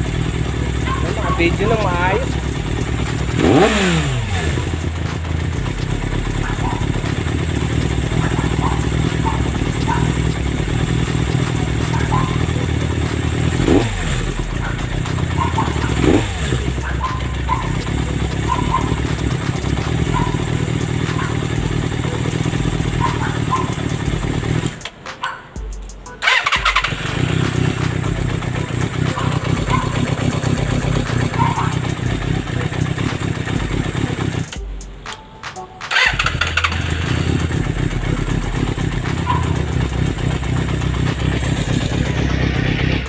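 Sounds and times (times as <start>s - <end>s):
motorcycle engine idling: 0.0s - 35.2s, 35.9s - 43.0s
throttle blips: 0.0s - 43.0s.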